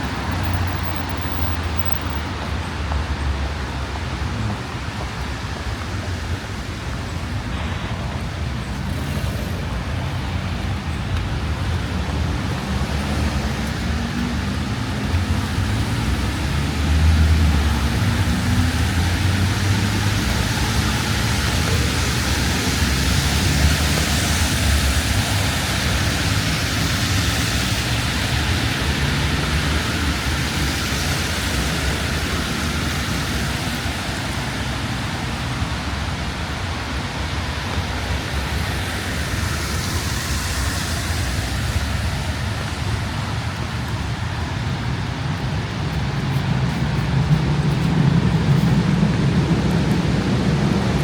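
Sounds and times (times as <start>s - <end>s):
passing traffic rumble: 0.0s - 51.0s
rain hiss: 0.0s - 51.0s
wet road noise: 0.0s - 51.0s.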